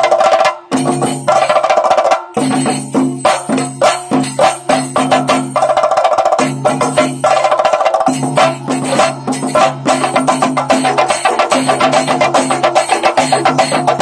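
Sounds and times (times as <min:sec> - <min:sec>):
drums beaten with sticks: 0:00.0 - 0:14.0.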